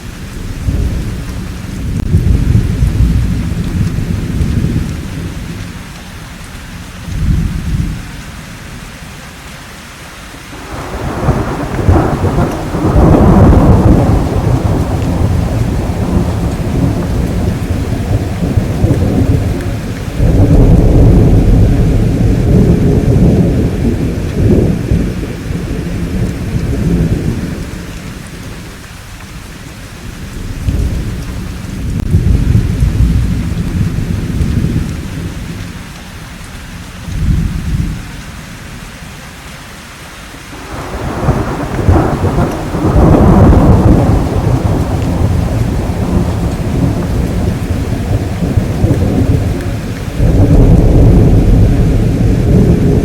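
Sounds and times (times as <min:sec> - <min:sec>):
thunder rolling: 0:00.0 - 0:06.0, 0:10.6 - 0:36.0, 0:36.6 - 0:38.2, 0:40.6 - 0:53.0
steady rainfall: 0:00.0 - 0:53.0.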